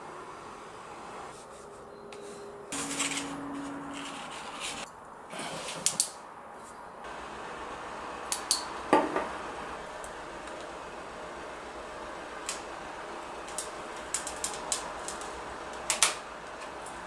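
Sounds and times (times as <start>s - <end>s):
steady hum: 0.0s - 5.4s, 6.3s - 17.0s.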